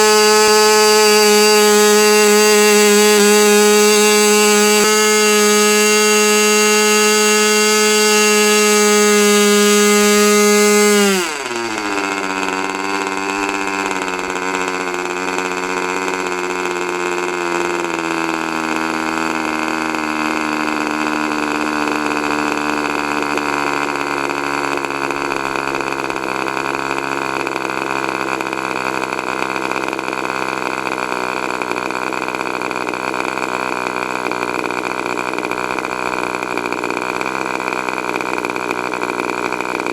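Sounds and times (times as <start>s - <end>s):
model engine running and idling: 0.0s - 39.9s.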